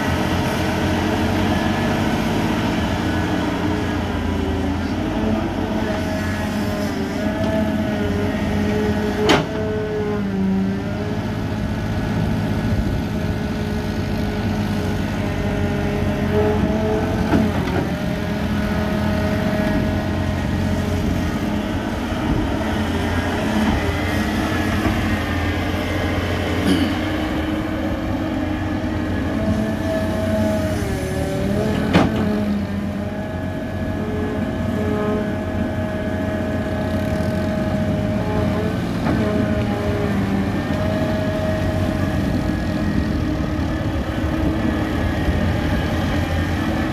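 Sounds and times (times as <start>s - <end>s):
excavator diesel engine working: 0.0s - 46.9s.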